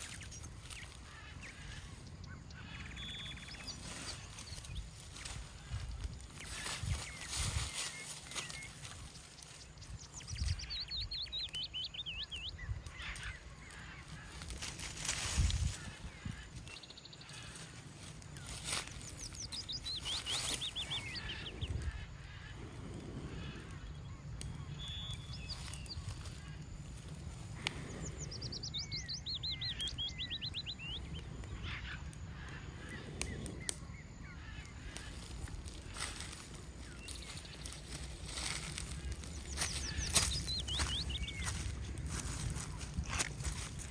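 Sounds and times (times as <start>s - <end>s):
bird chirps: 0.0s - 14.8s, 18.4s - 22.0s, 23.8s - 26.6s, 27.6s - 43.9s
songbird singing: 0.0s - 43.9s
wind rumbling on microphone: 0.0s - 43.9s.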